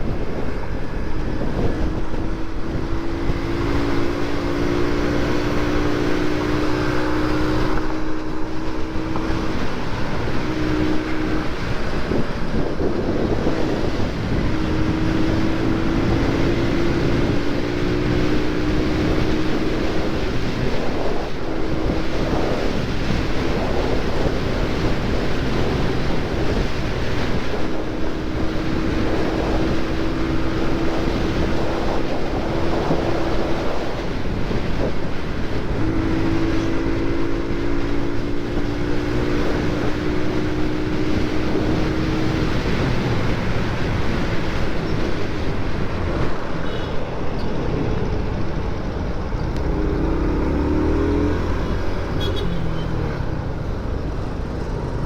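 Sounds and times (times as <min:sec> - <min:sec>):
wind rush on microphone: 0:00.0 - 0:55.0.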